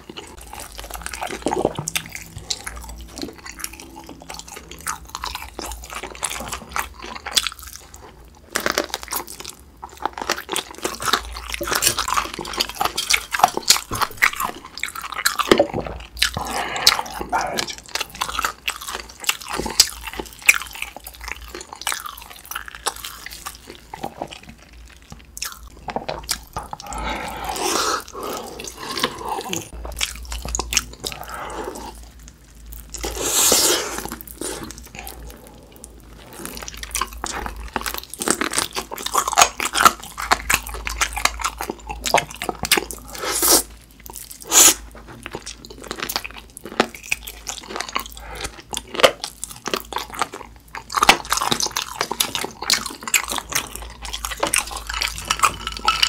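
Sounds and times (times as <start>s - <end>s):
crunchy chewing of fried chicken: 0.0s - 56.0s.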